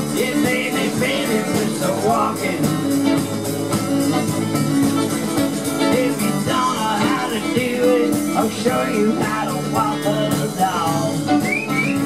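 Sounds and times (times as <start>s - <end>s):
bass guitar: 0.0s - 12.0s
drum kit: 0.0s - 12.0s
electric guitars: 0.0s - 12.0s.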